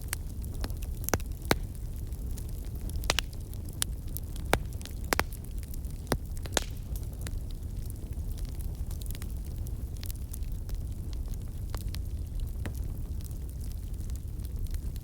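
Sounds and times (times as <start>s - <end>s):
low rumble of flames: 0.0s - 15.0s
wood fire pops and snaps: 0.0s - 15.0s.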